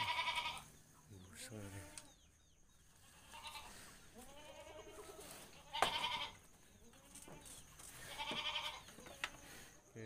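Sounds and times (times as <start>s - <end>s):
farm animals bleating: 0.0s - 9.3s.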